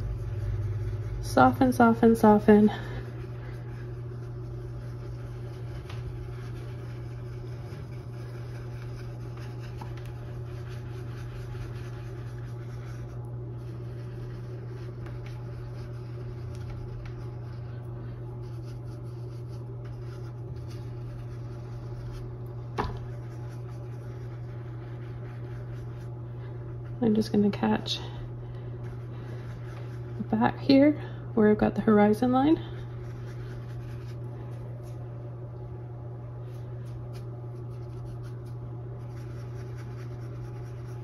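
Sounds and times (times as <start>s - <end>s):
brush rubbing on canvas: 0.0s - 28.2s, 28.8s - 30.6s, 32.5s - 35.1s, 36.4s - 41.0s
low hum: 0.0s - 41.0s.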